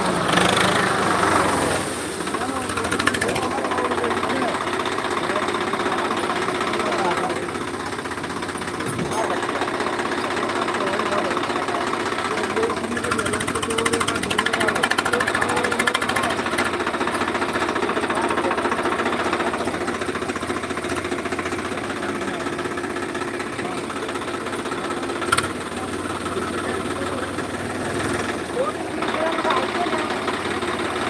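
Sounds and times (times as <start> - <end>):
diesel tractor engine clattering: 0.0 - 31.0.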